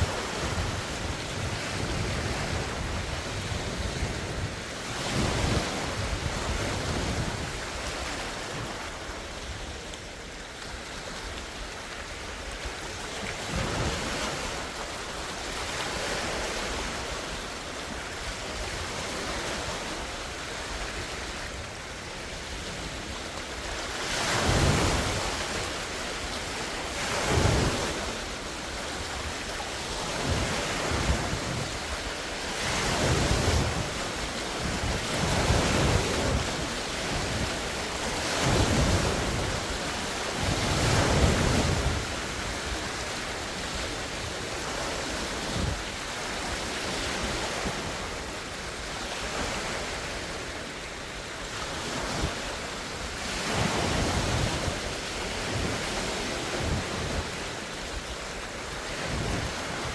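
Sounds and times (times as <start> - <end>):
lake waves breaking on shore: 0.0 - 59.9
wind rumble on microphone: 0.0 - 59.9.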